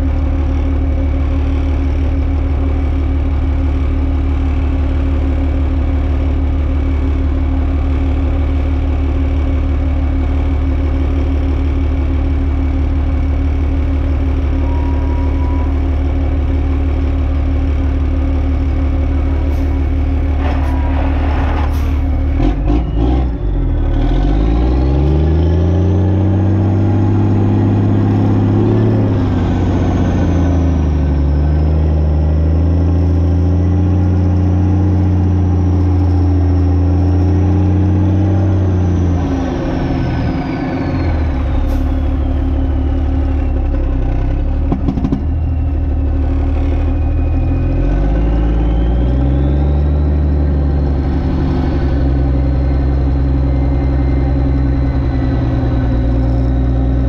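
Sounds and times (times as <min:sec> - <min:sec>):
diesel truck engine with whine: 0:00.0 - 0:57.0.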